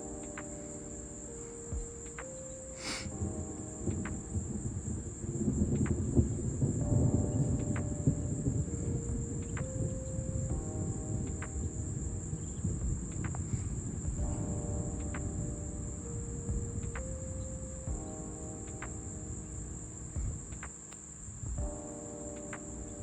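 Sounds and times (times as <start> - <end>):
distant thunder rumble: 0.0 - 20.7.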